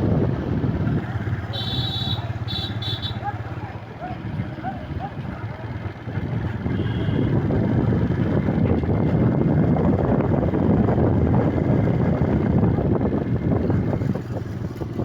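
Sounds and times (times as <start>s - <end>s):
unmuffled engine running: 0.0s - 15.0s.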